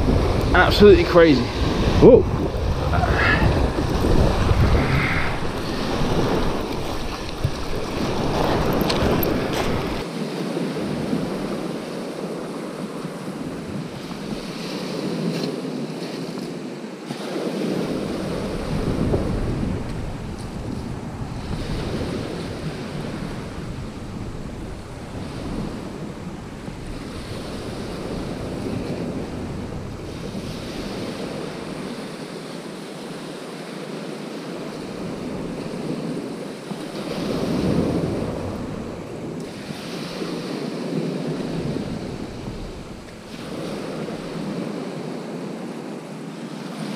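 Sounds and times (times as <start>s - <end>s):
waves breaking on shingle beach: 0.0s - 46.9s
wind buffeting microphone: 0.0s - 46.9s.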